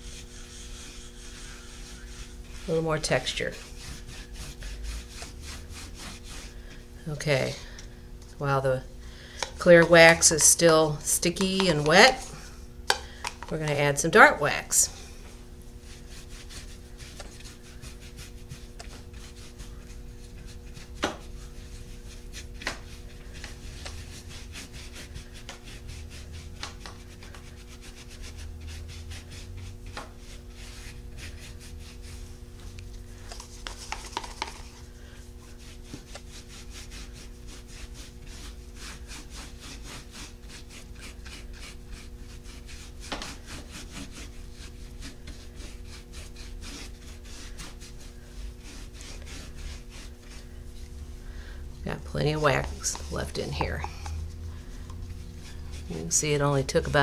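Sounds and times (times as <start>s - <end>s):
wax brush scratchy rubbing: 0.0s - 7.8s, 9.5s - 12.7s, 13.5s - 57.0s.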